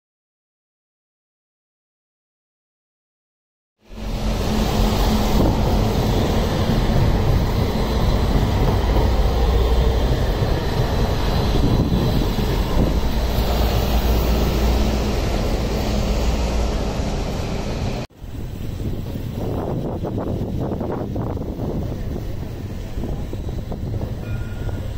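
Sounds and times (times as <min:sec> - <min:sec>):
tram running past: 0:03.8 - 0:24.9.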